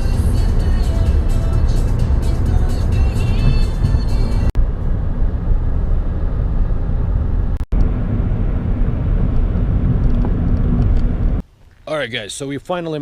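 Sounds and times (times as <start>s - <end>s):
vehicle road rumble: 0.0s - 11.9s.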